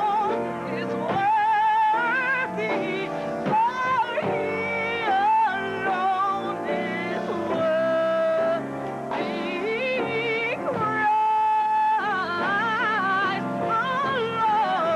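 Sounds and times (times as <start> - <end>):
person singing gospel: 0.0 - 14.9.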